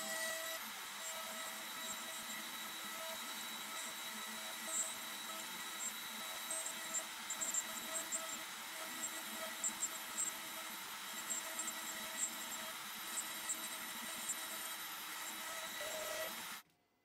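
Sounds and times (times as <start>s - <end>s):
router spindle whining: 0.0s - 16.6s.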